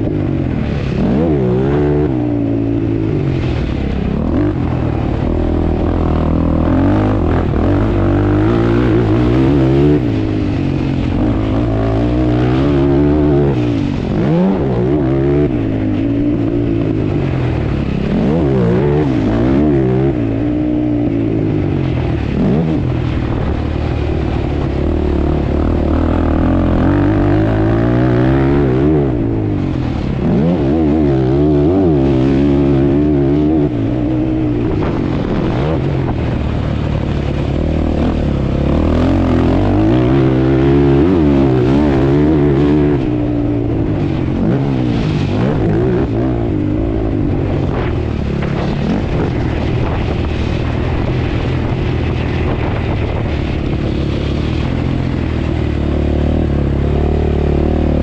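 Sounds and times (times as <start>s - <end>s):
quad bike engines revving: 0.0s - 58.0s.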